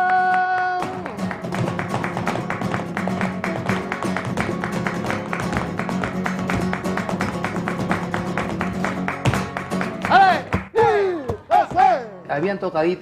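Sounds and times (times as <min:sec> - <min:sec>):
fast rhythmic flamenco guitar: 0:00.0 - 0:13.0.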